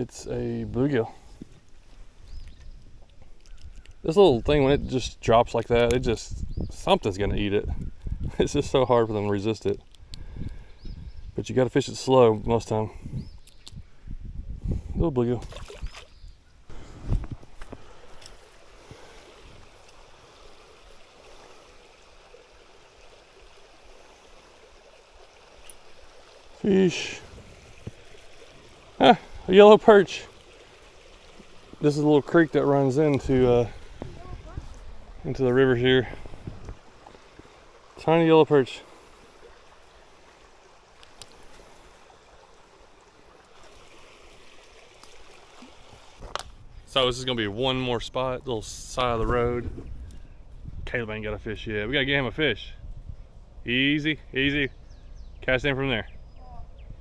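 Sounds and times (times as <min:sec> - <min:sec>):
creek running over rocks: 0:00.0 - 0:12.9, 0:15.2 - 0:50.0.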